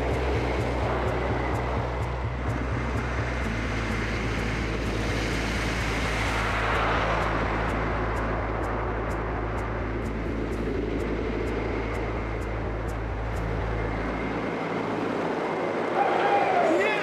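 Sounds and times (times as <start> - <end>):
roller coaster rumbling on track: 0.0 - 17.0.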